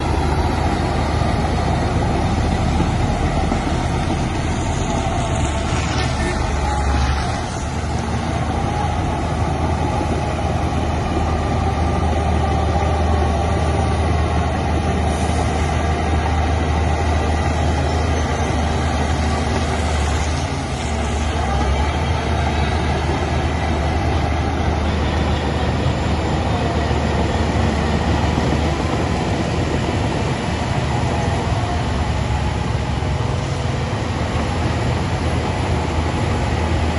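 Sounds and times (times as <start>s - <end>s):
heavy diesel machinery droning: 0.0s - 36.9s.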